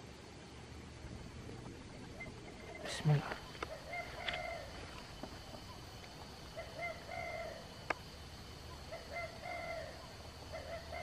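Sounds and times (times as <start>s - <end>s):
dove cooing: 1.4s - 11.0s.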